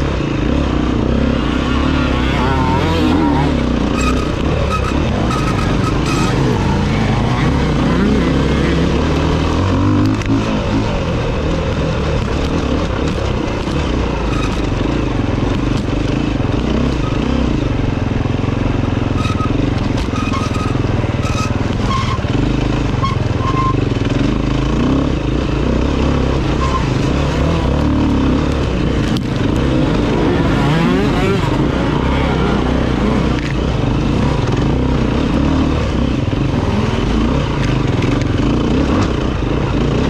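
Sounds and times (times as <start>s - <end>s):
dirt bike engine revving: 0.0s - 18.0s, 18.7s - 40.0s.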